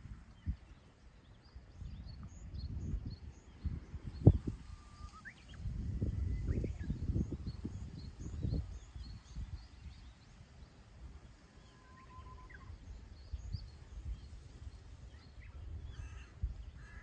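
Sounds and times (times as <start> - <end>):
wind buffeting microphone: 0.0 - 10.3, 12.0 - 17.0
small birds chirping: 0.0 - 17.0.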